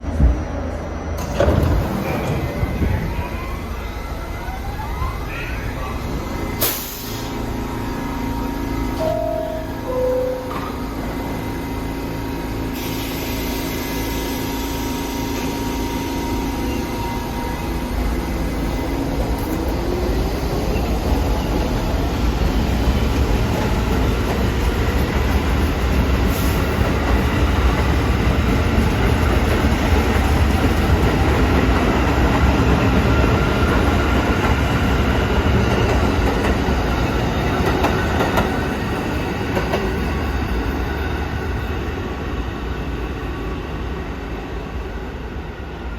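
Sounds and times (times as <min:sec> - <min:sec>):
subway train wheels rumbling: 0:00.0 - 0:45.9.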